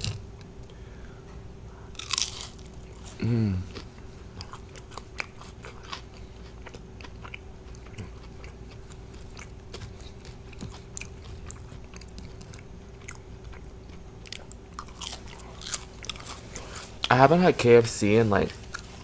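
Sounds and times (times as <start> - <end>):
person chewing crunchy food: 1.9 - 17.2.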